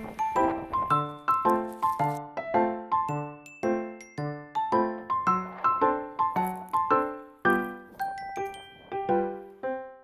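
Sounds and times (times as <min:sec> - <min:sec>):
light keyboard melody: 0:00.0 - 0:10.0.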